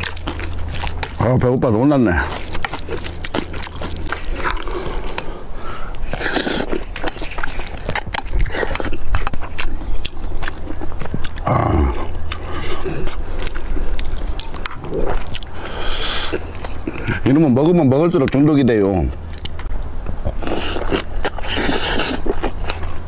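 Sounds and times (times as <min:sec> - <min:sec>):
slurping: 0:00.0 - 0:17.2, 0:20.3 - 0:23.0
man chewing crunchy food: 0:00.0 - 0:23.0.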